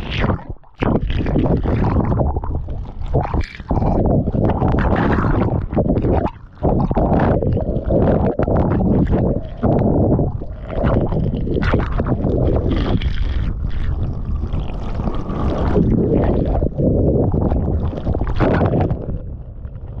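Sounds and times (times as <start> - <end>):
water splashing and gurgling: 0.0 - 20.0.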